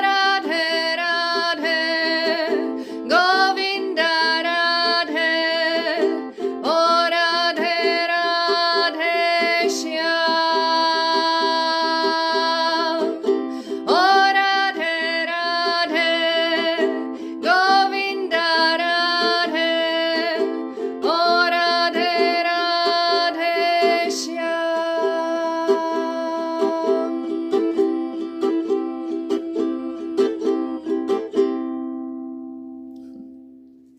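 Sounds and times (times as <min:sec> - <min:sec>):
plucked string strumming: 0:00.0 - 0:33.9.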